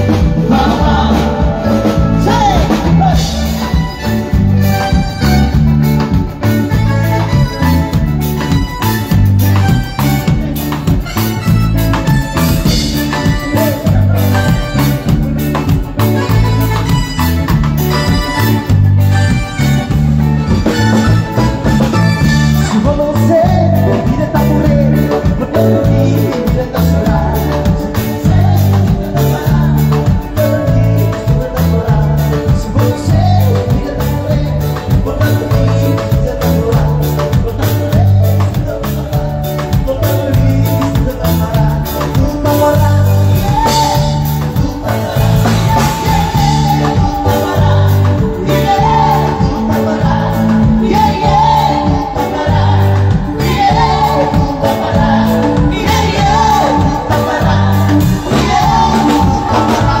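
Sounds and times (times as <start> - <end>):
electric bass line: 0.0 - 60.0
electric guitar: 0.0 - 60.0
keyboard playing: 0.0 - 60.0.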